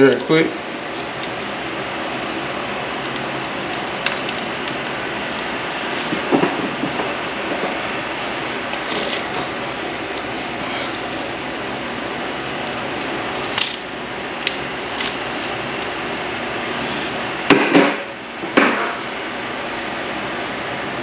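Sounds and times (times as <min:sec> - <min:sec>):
fan running: 0:00.0 - 0:21.0.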